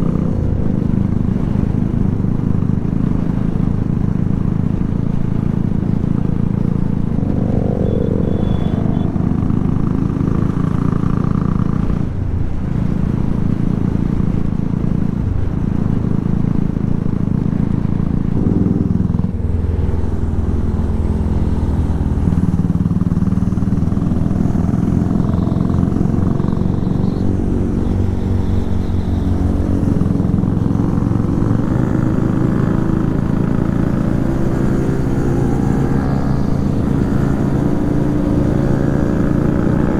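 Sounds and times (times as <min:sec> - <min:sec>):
motorcycle engine revving: 0:00.0 - 0:12.4, 0:15.6 - 0:39.9.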